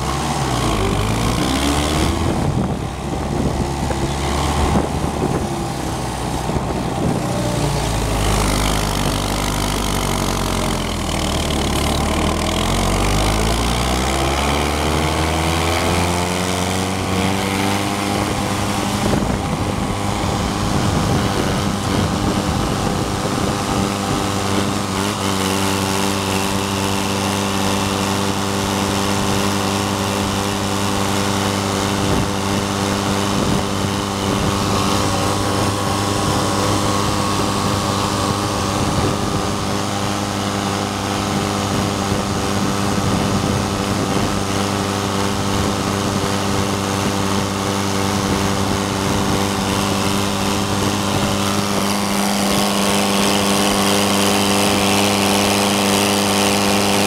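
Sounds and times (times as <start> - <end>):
mower engine running: 0.0 - 57.0.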